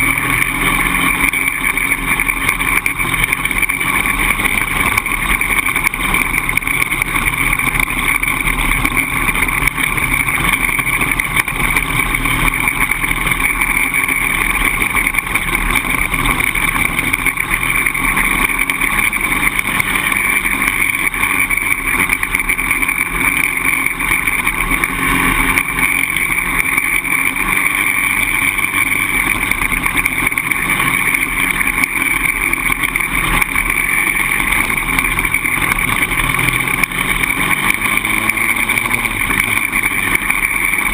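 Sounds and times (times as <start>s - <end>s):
quad engine running: 0.0s - 40.9s.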